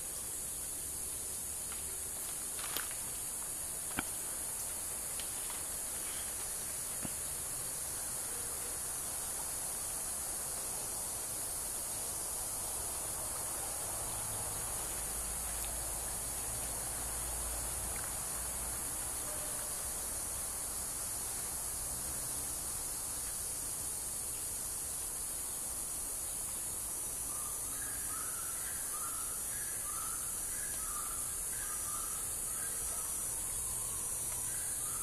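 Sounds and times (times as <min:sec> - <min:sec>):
high-pitched insect chorus: 0:00.0 - 0:35.0.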